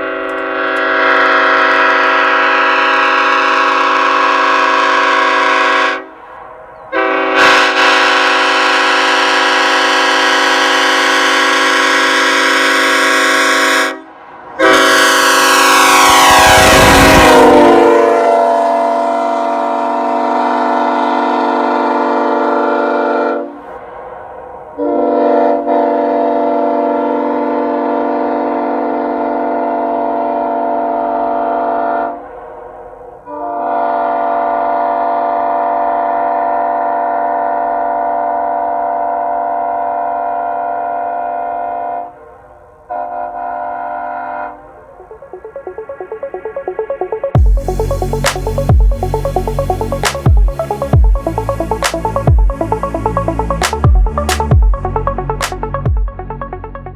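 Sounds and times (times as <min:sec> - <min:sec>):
train horn chord blasts: 0:00.0 - 0:23.8, 0:24.8 - 0:56.9.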